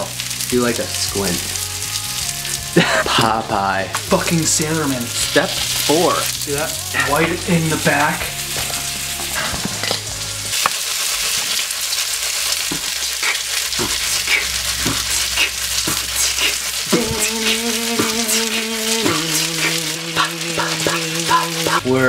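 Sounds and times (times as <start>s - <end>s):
chicken sizzling in oil: 0.0s - 22.0s.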